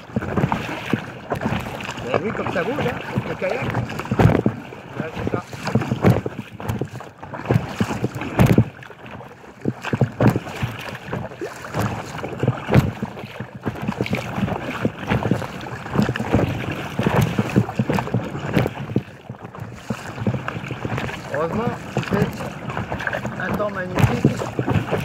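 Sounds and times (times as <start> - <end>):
waves slapping a kayak hull: 0.0 - 25.0
wind buffeting microphone: 0.0 - 25.0.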